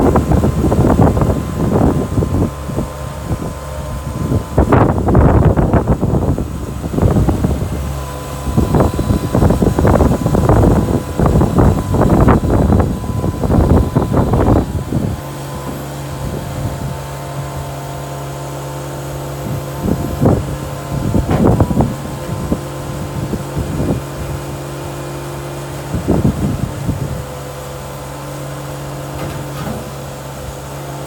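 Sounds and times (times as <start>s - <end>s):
skid steer diesel engine running: 0.0s - 31.0s.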